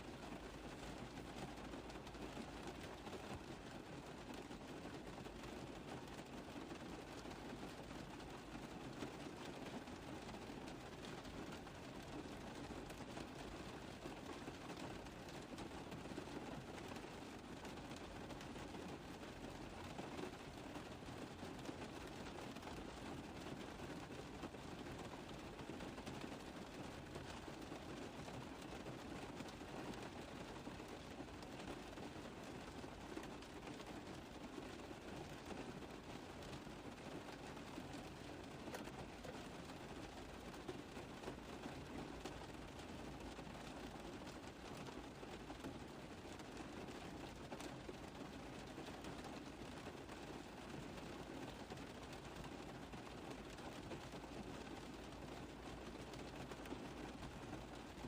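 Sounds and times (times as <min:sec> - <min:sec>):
rain tapping on car roof: 0:00.0 - 0:58.0.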